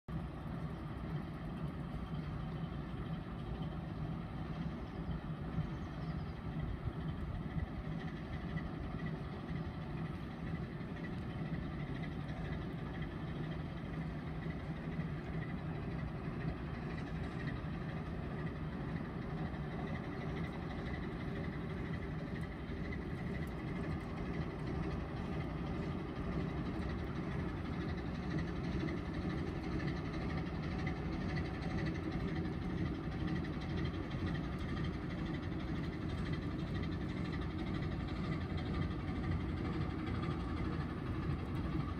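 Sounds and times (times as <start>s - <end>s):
marine diesel engine drone: 0.1s - 41.9s.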